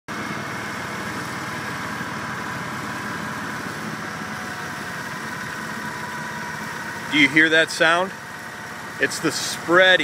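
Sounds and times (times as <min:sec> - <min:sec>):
engine droning: 0:00.1 - 0:10.0.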